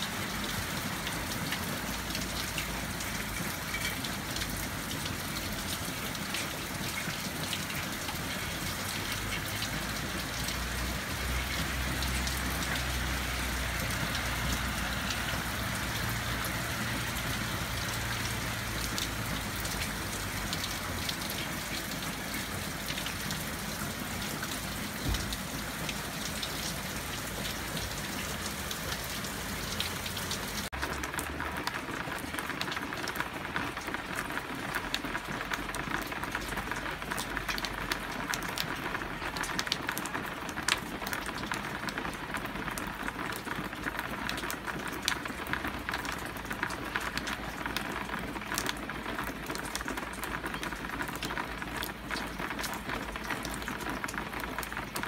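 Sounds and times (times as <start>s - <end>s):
hard rain falling: 0.0s - 55.0s
rain splatting on wet surface: 0.0s - 55.0s.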